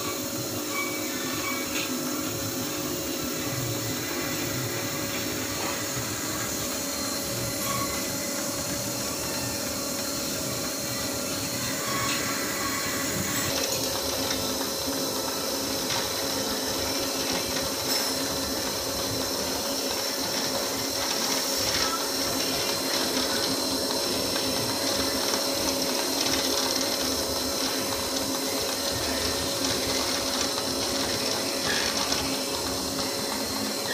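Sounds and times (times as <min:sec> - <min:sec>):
machine motor whirring: 0:00.0 - 0:33.9.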